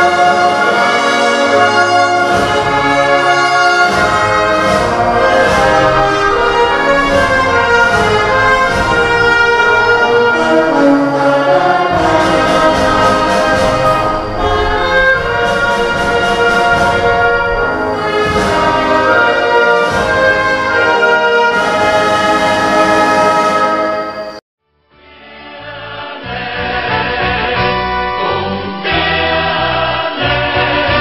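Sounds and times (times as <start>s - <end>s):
orchestral music with brass: 0.0s - 24.4s, 25.1s - 31.0s.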